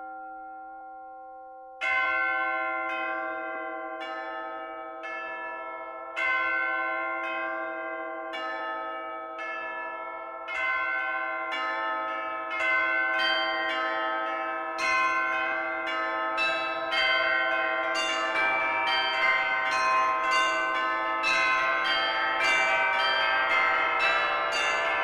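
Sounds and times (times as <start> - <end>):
church bells ringing: 0.0 - 1.2, 1.8 - 25.0.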